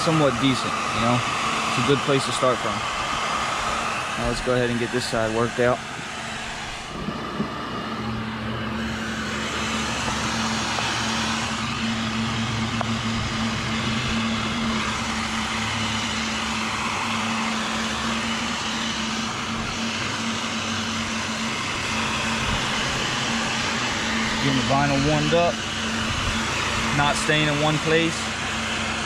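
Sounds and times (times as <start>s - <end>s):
heat gun fan blowing: 0.0s - 29.0s.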